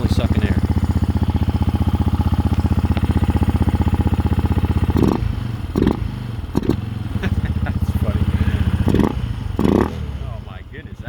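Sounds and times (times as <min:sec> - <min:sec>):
engine throttle blips: 0:00.0 - 0:11.0
motorcycle engine idling: 0:00.0 - 0:11.0.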